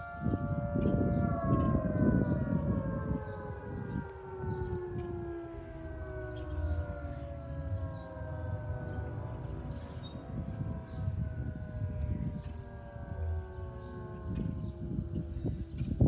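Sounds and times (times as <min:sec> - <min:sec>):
low rumbling noise: 0:00.0 - 0:16.0
warning siren winding down: 0:00.0 - 0:16.0.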